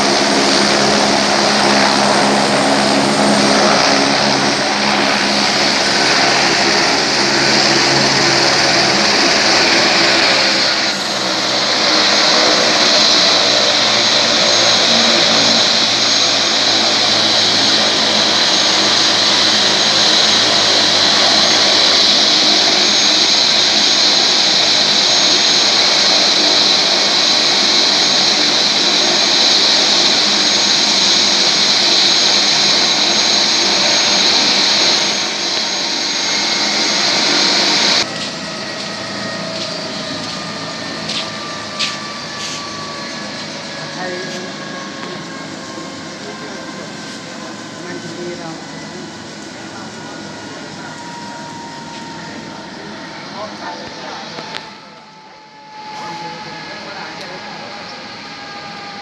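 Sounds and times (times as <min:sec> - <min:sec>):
helicopter rotor whine: 0:00.0 - 0:59.0.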